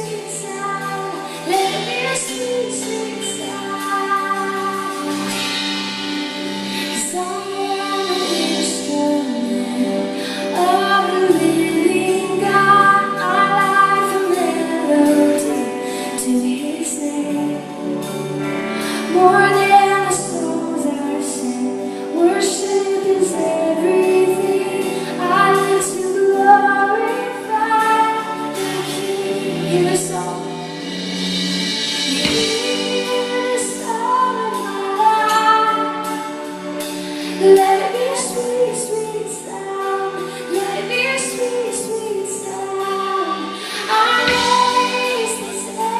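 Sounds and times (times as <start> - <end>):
band accompaniment: 0.0 - 45.9
woman singing worship song: 0.0 - 45.9.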